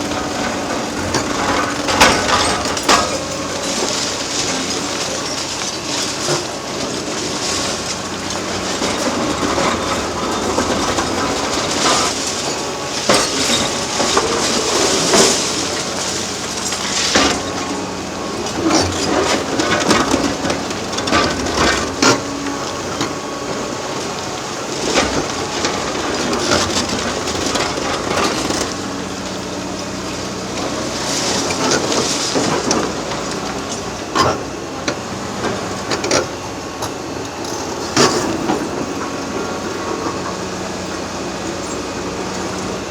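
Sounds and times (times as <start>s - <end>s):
concrete crunching and cracking: 0.0s - 42.9s
excavator diesel engine running: 0.0s - 42.9s.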